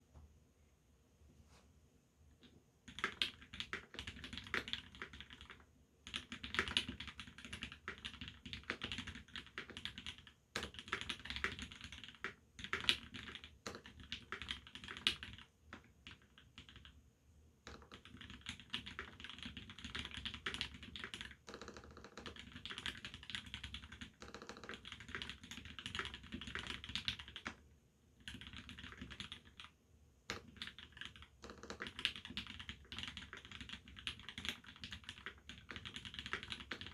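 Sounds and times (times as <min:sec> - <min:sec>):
typing on mechanical keyboard: 0:02.9 - 0:17.0, 0:17.6 - 0:27.6, 0:28.2 - 0:29.7, 0:30.3 - 0:36.9.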